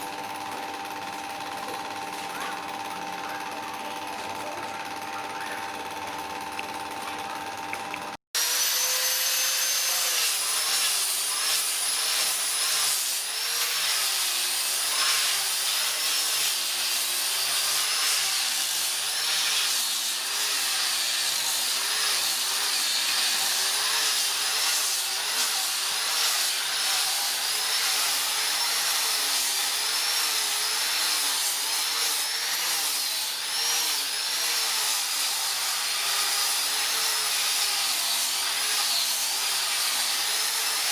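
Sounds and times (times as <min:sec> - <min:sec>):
electric power tool whining: 0:00.0 - 0:40.9.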